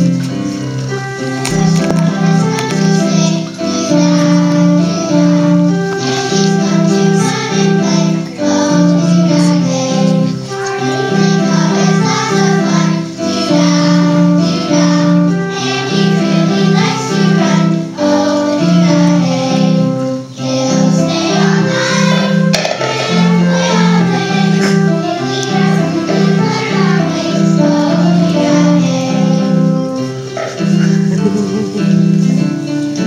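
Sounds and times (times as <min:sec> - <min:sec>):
accompanying music with low notes: 0:00.0 - 0:33.0
children singing: 0:00.0 - 0:33.0.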